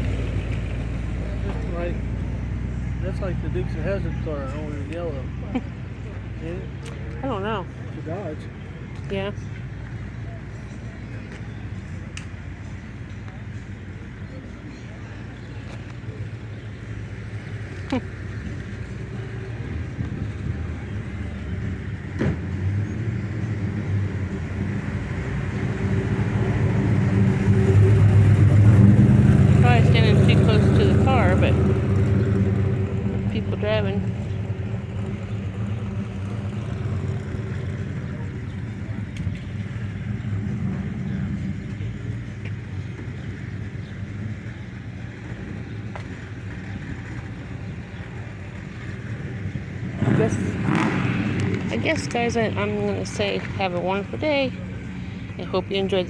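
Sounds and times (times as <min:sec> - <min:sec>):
car engine humming: 0:00.0 - 0:56.0.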